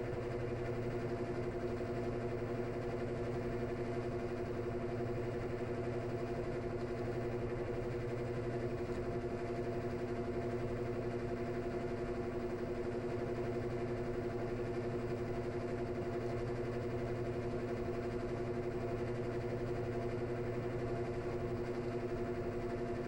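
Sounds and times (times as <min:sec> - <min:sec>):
washing machine drain drone: 0:00.0 - 0:23.0.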